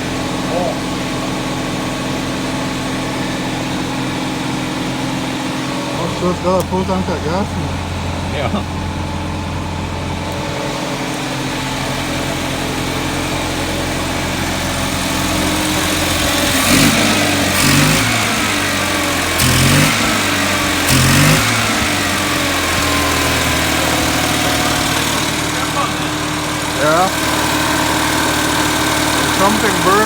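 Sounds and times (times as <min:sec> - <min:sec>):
car engine idling: 0:00.0 - 0:30.0
engine throttle blips: 0:00.0 - 0:30.0.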